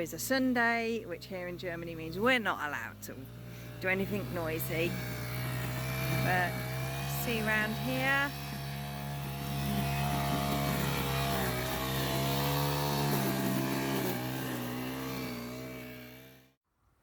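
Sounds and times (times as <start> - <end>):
lawn mower engine running: 0.0 - 16.5.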